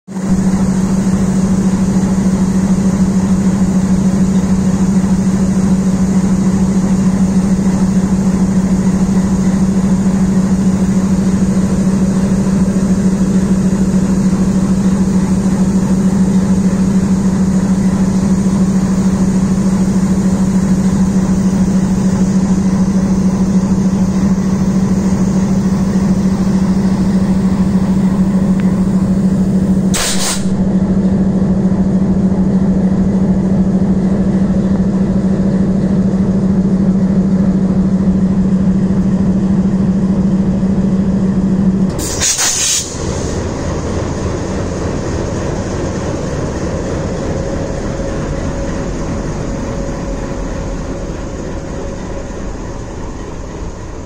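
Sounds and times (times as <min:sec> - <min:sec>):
diesel locomotives rumbling: 0:00.1 - 0:54.0.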